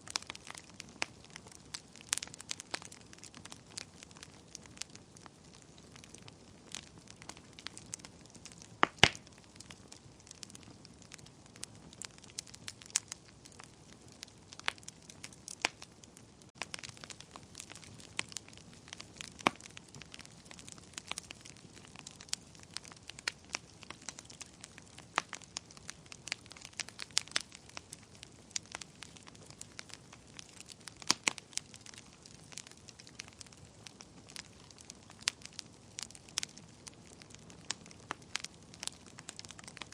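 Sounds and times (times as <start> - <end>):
fire crackling and popping: 0.0 - 39.9
soft steady hiss: 0.0 - 39.9.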